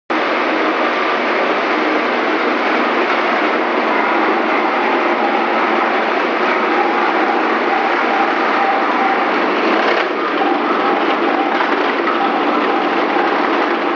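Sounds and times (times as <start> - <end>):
chopping machine running: 0.1 - 13.9.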